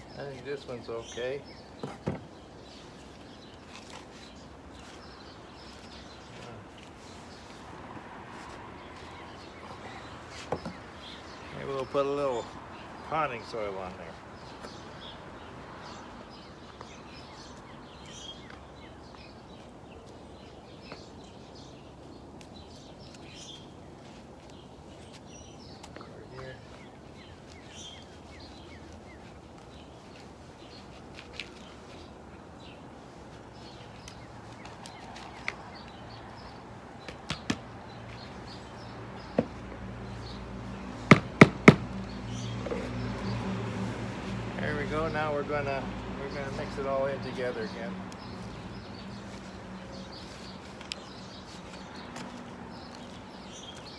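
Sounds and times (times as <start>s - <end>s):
low outdoor background noise: 0.0s - 53.9s
small birds chirping: 0.0s - 53.9s.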